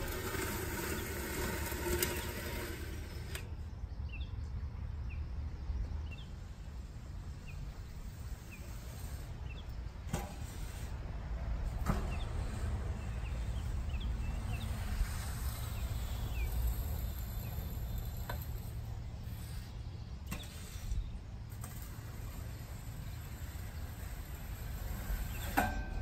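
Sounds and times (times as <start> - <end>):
rake dragged across lawn: 0.0 - 3.6, 6.4 - 26.0.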